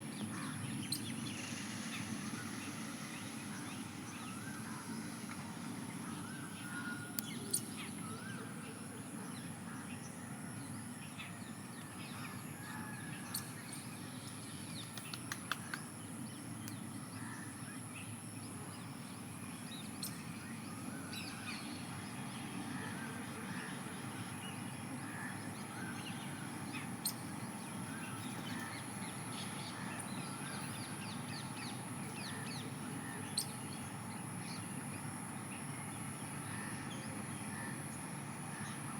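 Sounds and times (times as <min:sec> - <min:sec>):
birds chirping: 0:00.0 - 0:38.9
low background noise: 0:00.0 - 0:38.9.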